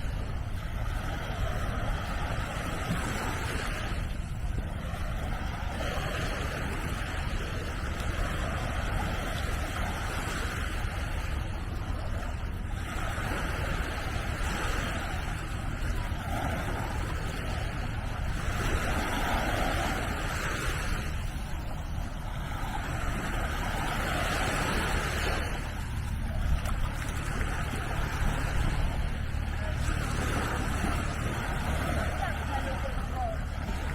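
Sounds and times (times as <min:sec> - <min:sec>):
small waves washing onto beach: 0:00.0 - 0:33.9
wind rumbling on microphone: 0:00.0 - 0:33.9.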